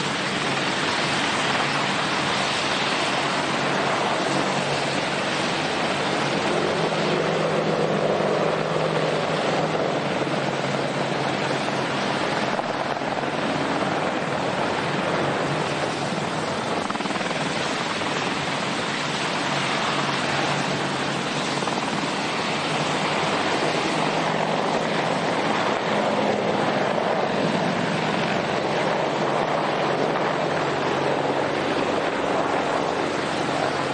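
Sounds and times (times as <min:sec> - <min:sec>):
helicopter rotor and turbine rush: 0:00.0 - 0:33.9.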